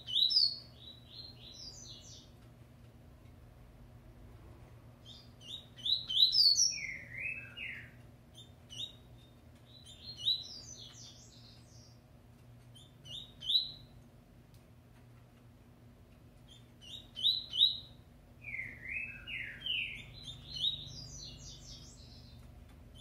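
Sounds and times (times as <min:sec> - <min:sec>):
bird chirping song: 0:00.0 - 0:02.6, 0:04.9 - 0:14.1, 0:16.1 - 0:23.0.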